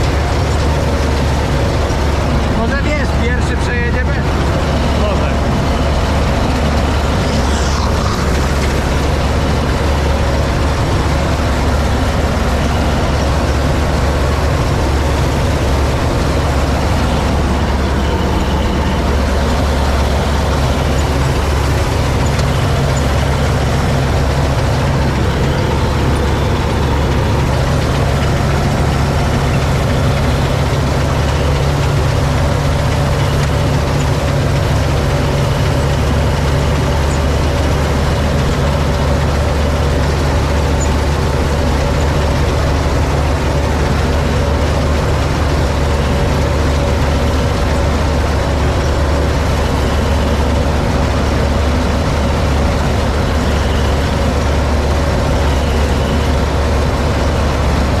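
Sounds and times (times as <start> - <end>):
combine harvester engine and machinery: 0.0 - 58.0.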